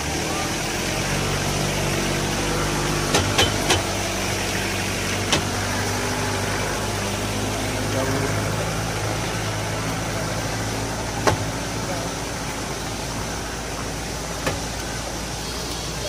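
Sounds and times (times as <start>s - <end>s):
low engine hum: 0.0s - 16.0s
waterfall rushing: 0.0s - 16.0s.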